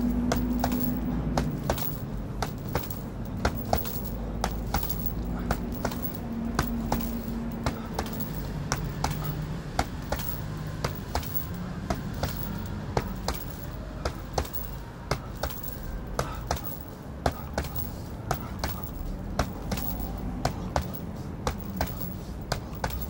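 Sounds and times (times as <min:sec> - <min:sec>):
boxing gloves punching heavy bag: 0:00.0 - 0:23.0.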